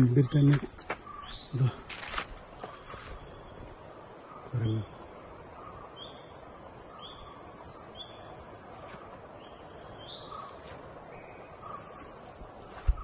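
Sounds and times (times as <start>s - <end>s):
birds chirping: 0.0s - 13.0s
forest background hiss: 0.0s - 13.0s.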